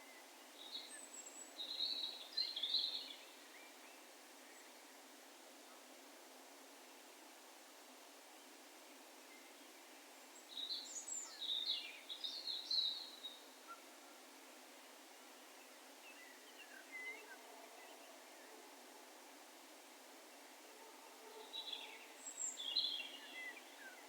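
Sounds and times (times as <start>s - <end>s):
faint countryside hiss: 0.0s - 24.0s.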